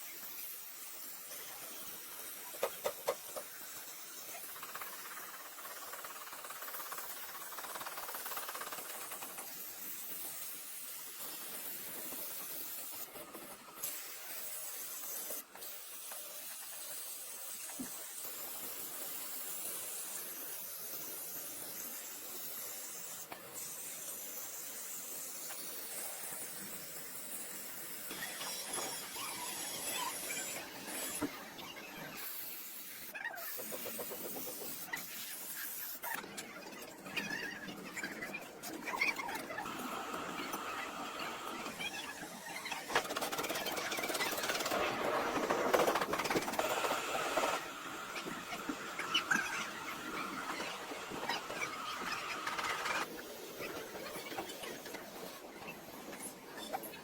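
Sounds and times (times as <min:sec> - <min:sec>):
steady hiss: 0:00.0 - 0:36.2, 0:38.6 - 0:57.0.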